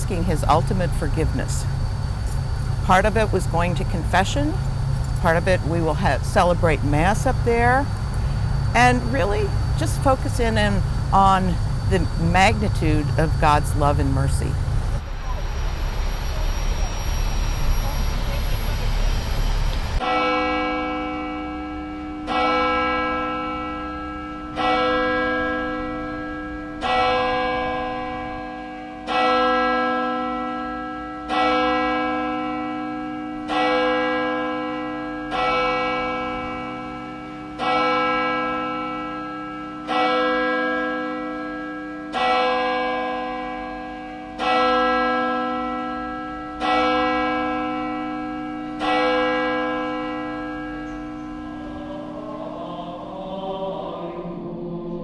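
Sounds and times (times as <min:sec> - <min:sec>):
church bell tolling: 0:00.0 - 0:53.2.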